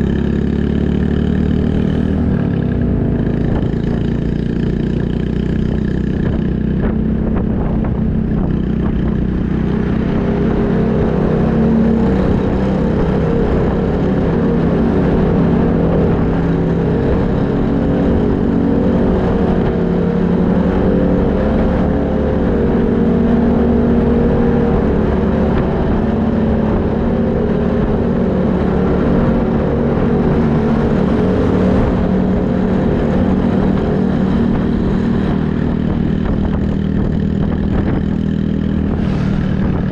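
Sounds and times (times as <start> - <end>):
motorcycle engines riding: 0.0 - 39.9.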